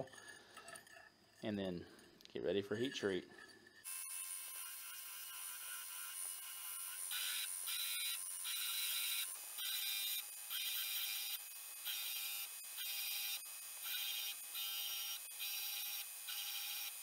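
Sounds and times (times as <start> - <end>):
belt grinder running: 2.6 - 17.0.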